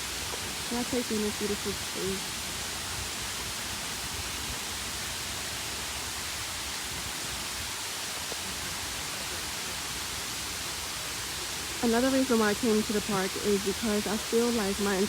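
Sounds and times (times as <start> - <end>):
outdoor park ambience hiss: 0.0 - 15.0.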